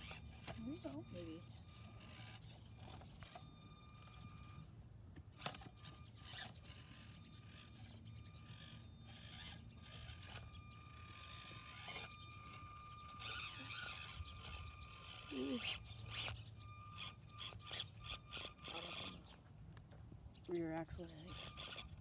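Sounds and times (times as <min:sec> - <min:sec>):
toy truck scraping: 0:00.0 - 0:04.8, 0:05.4 - 0:19.4, 0:21.3 - 0:22.0
small electric motor whining: 0:00.0 - 0:22.0.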